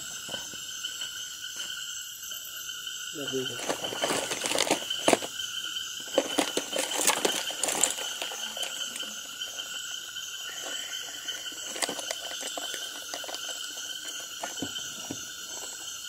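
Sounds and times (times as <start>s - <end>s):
insects and frogs buzzing: 0.0s - 16.0s.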